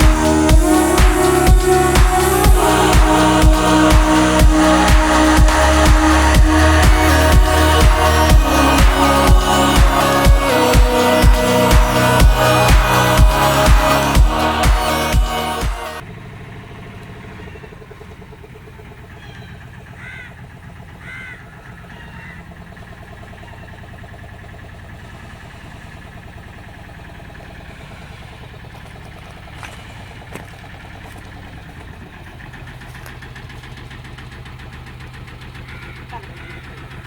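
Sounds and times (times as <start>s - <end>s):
motorboat engine humming: 0.0s - 37.0s.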